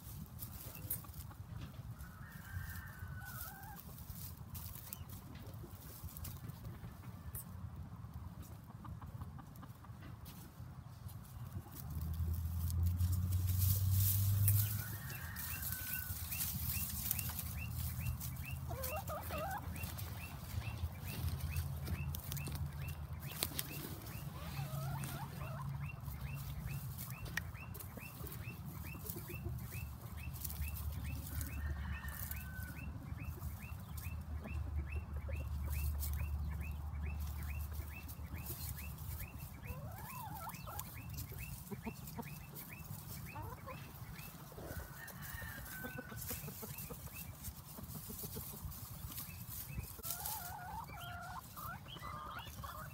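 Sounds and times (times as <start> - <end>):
dry straw crackling: 0.0 - 6.5, 10.3 - 34.5, 35.4 - 52.9
chicken calls: 0.0 - 52.9.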